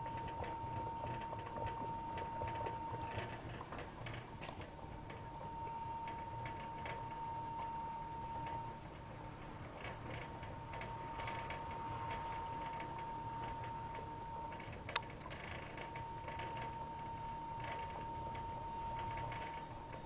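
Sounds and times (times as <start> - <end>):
steam bubbles clicking and popping: 0.0 - 16.6
thin high-pitched whine: 0.0 - 20.0.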